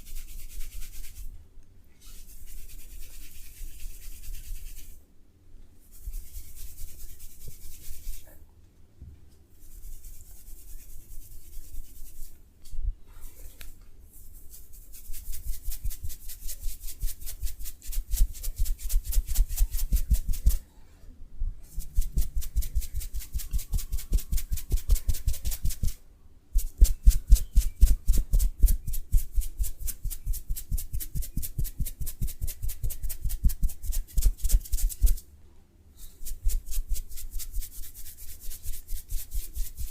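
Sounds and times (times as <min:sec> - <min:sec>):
hands rubbing on body: 0:02.0 - 0:05.0, 0:05.9 - 0:08.3, 0:09.6 - 0:12.4, 0:13.2 - 0:20.6, 0:21.6 - 0:26.0, 0:26.6 - 0:35.2, 0:36.1 - 0:39.9.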